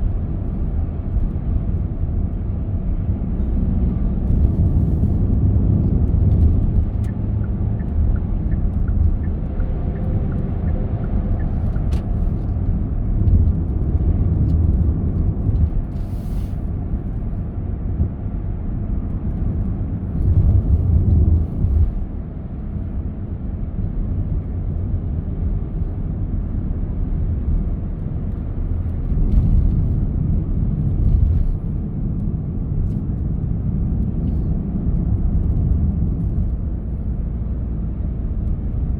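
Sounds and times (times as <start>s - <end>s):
car tyres and engine rumbling: 0.0s - 38.9s.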